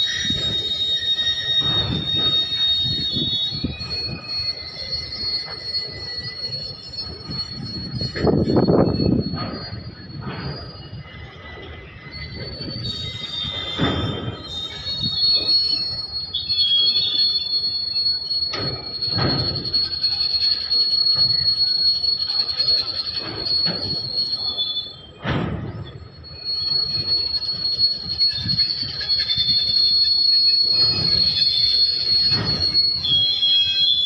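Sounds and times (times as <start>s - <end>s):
freight train rolling past: 0.0s - 34.0s
high-pitched wheel squeal: 0.0s - 34.0s.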